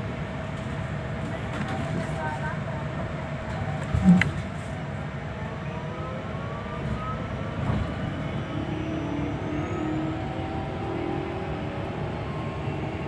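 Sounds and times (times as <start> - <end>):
road rumble: 0.0 - 13.0.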